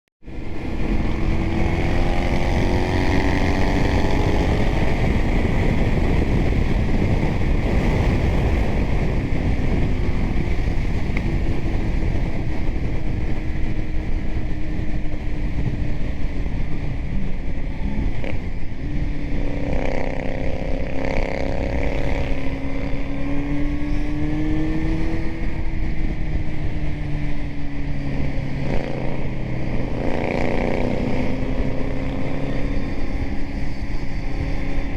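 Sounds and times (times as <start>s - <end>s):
motorcycle engine while riding: 0.2s - 34.9s
wind rushing over microphone: 0.2s - 34.9s.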